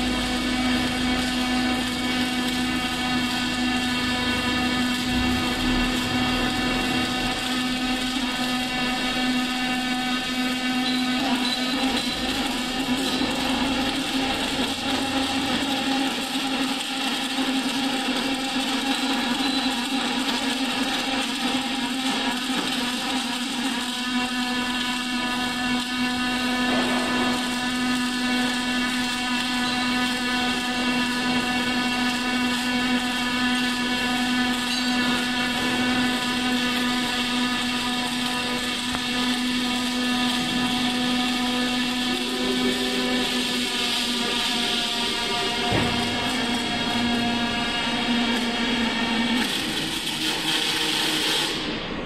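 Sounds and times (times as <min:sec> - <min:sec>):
welding arc buzzing: 0:00.0 - 0:52.0.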